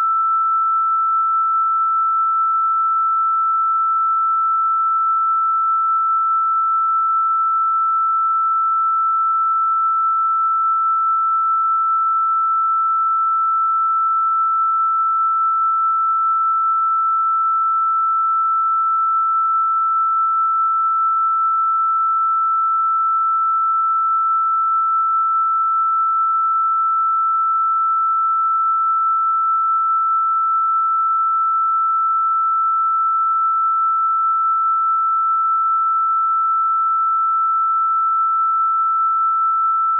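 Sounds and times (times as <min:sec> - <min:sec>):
high pure sine tone: 0:00.0 - 0:39.9.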